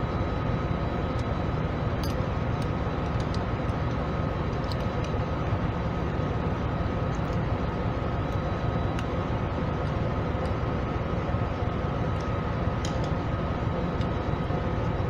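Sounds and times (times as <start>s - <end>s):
faint high whine: 0.0s - 15.0s
low machine drone: 0.0s - 15.0s.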